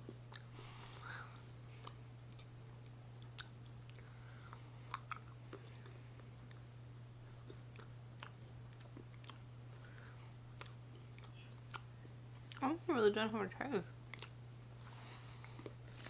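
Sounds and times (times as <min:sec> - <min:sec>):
chewing candy: 0:00.0 - 0:00.5, 0:01.7 - 0:12.8, 0:14.0 - 0:16.0
steady low hum: 0:00.0 - 0:16.0.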